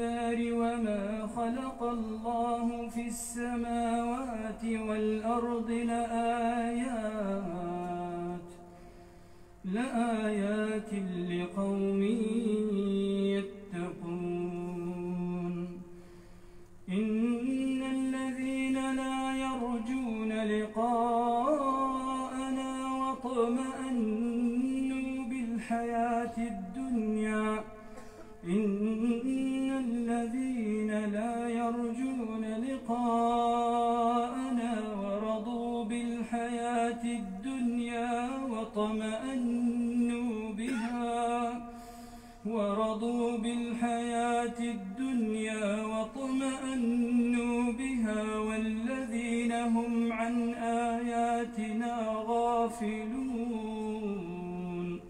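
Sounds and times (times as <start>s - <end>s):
man chanting melodically: 0.0s - 8.6s, 9.6s - 15.8s, 16.9s - 41.7s, 42.4s - 55.0s.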